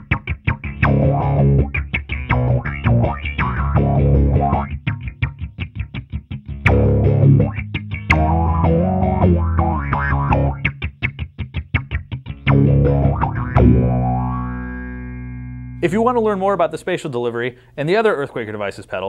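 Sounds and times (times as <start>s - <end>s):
bass guitar with envelope filter: 0.0s - 16.5s.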